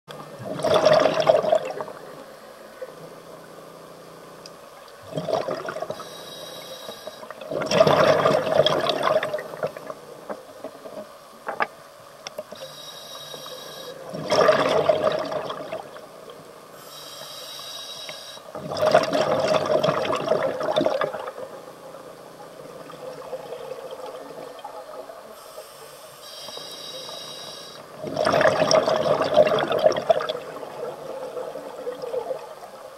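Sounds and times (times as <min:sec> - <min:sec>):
exhaled air bubbling underwater: 0:00.2 - 0:03.5, 0:04.7 - 0:32.9.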